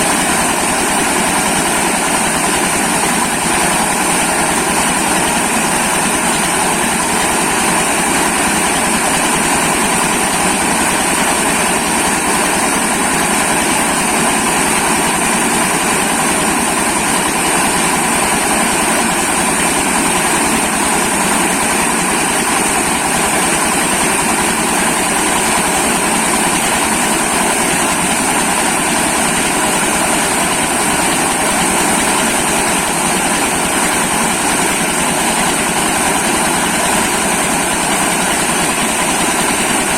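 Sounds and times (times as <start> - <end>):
grinding mill running: 0.0 - 39.9.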